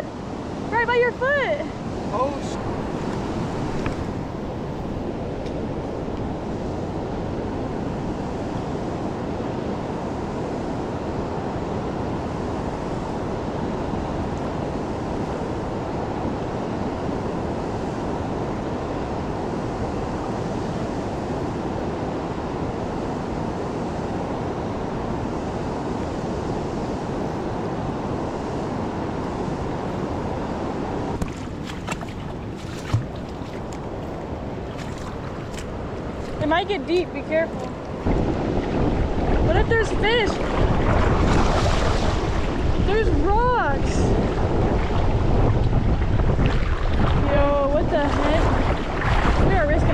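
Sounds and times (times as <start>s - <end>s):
creek floodwater rushing: 0.0s - 49.9s.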